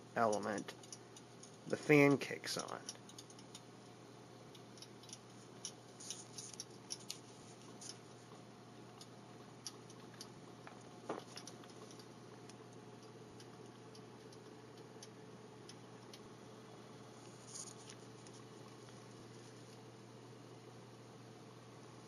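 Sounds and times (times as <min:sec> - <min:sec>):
space heater fan running: 0:00.0 - 0:22.0.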